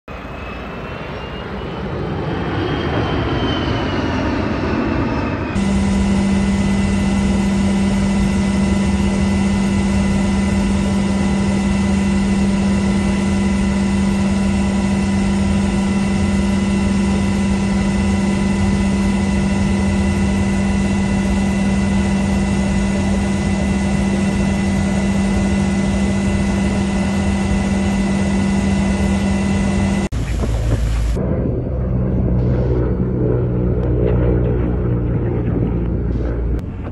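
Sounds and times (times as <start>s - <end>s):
aircraft engine drone: 0.1s - 36.9s
aircraft flying past: 0.1s - 36.9s.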